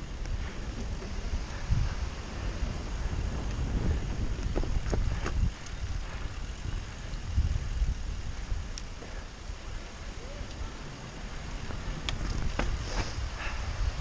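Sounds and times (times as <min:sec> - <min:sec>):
bike tyres rumbling: 0:00.0 - 0:14.0
wind buffeting microphone: 0:00.0 - 0:14.0.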